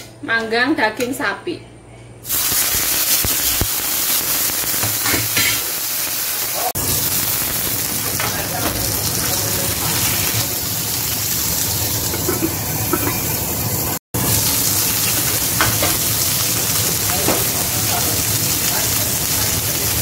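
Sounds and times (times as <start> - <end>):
steak sizzling in frying pan: 2.3 - 20.0.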